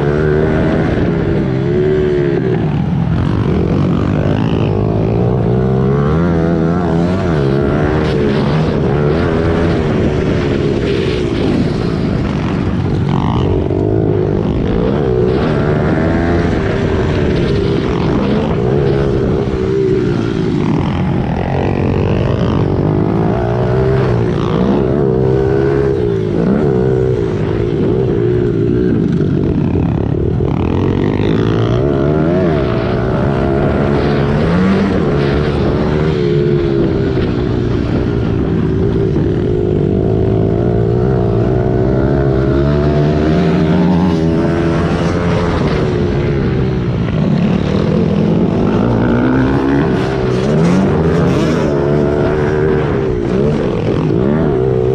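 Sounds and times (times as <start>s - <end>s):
pit bike engines revving: 0.0s - 54.9s.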